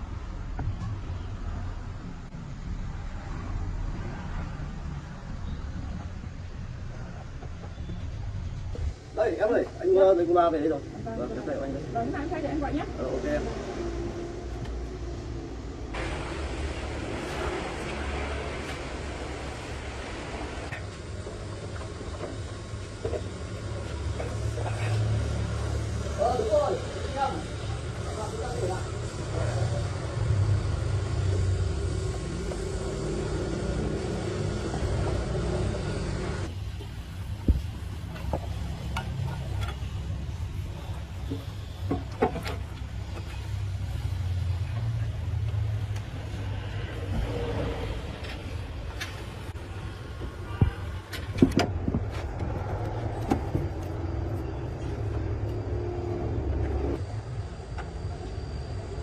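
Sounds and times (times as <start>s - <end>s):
truck engine rumbling: 11.2s - 59.0s.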